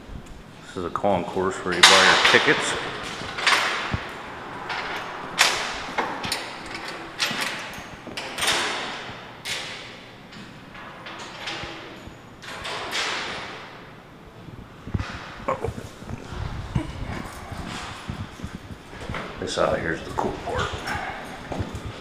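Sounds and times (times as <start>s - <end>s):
echoing knocks and clanks: 1.2s - 14.1s, 14.8s - 22.0s.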